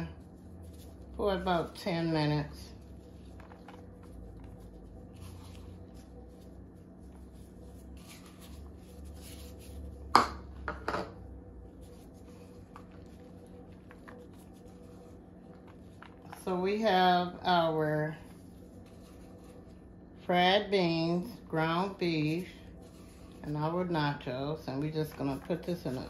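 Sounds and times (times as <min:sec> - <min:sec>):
cheese rustling: 0:00.0 - 0:10.2, 0:11.5 - 0:17.3, 0:17.9 - 0:20.3, 0:21.3 - 0:26.0
faint steady hum: 0:00.0 - 0:26.0.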